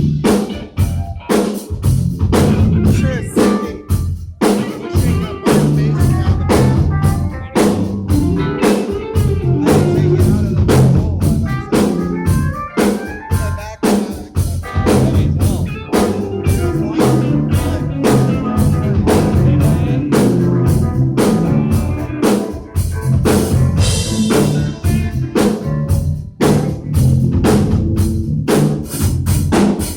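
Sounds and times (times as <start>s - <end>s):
live rock band playing: 0.0s - 29.9s.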